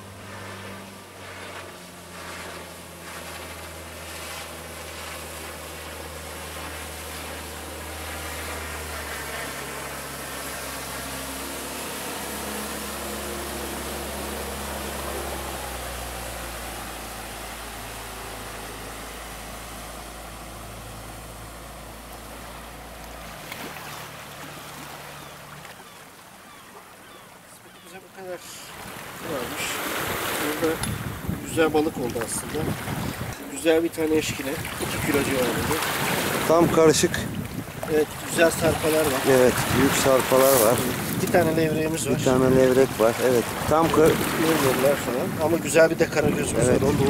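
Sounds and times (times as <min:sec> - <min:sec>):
boat engine humming: 0:00.0 - 0:47.0
rushing water: 0:00.0 - 0:47.0.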